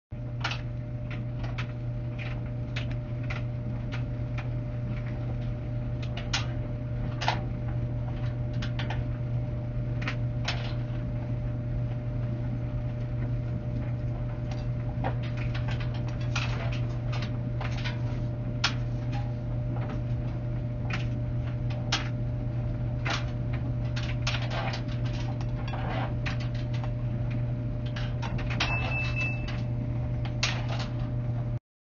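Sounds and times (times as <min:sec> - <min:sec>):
clothes dryer humming: 0:00.1 - 0:31.6.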